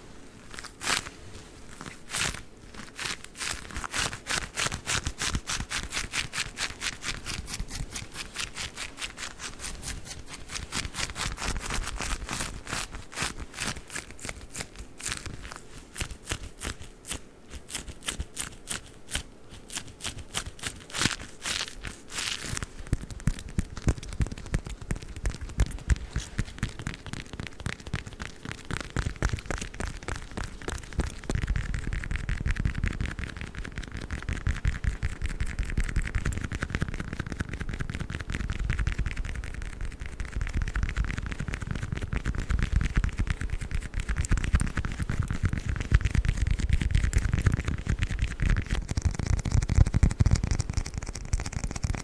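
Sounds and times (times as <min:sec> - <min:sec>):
sticky gloves crackling: 0:00.0 - 0:52.0.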